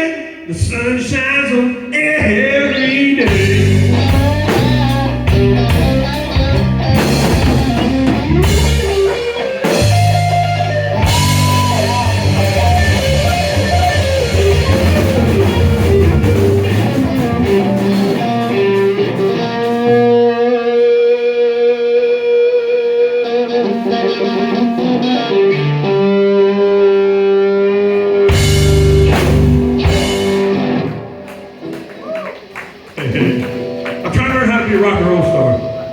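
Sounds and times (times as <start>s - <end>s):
live blues band playing: 1.8s - 35.9s
electric guitar lead: 2.5s - 35.9s.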